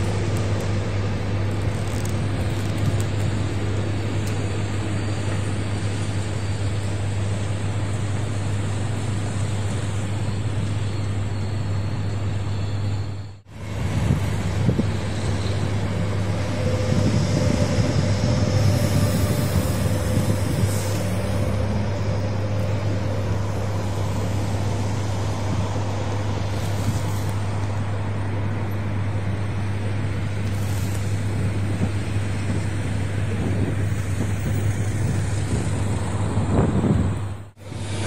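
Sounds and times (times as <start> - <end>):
city traffic noise: 0.0 - 38.0
passenger train rumbling past: 0.0 - 38.0.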